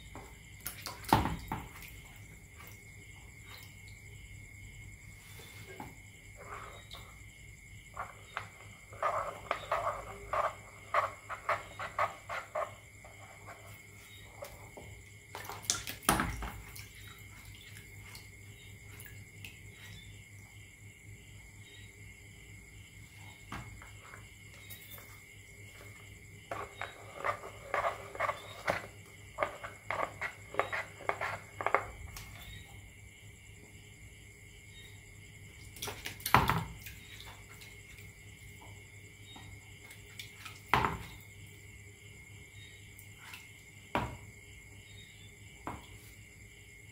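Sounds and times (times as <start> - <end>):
water dripping and lapping: 0.0 - 21.0, 22.8 - 33.0, 35.2 - 42.1, 42.8 - 44.8.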